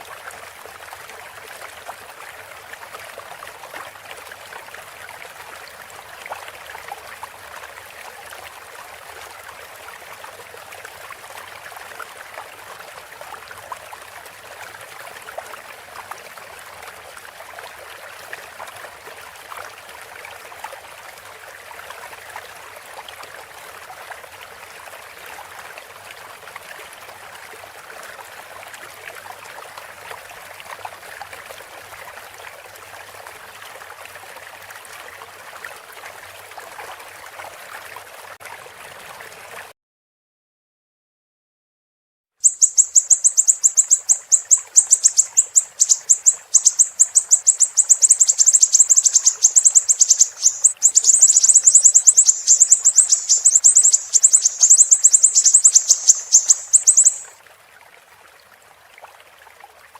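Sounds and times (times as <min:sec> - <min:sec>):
stream water running: 0:00.0 - 0:39.7, 0:42.4 - 0:59.9.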